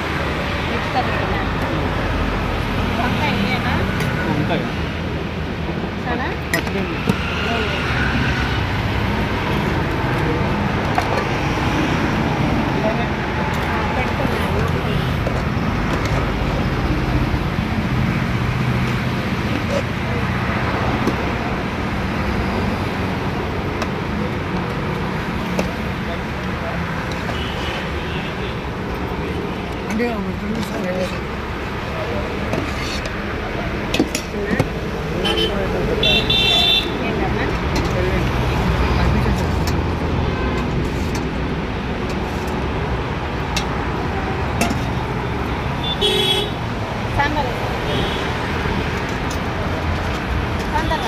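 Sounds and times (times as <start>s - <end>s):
roadside traffic: 0.0s - 51.0s.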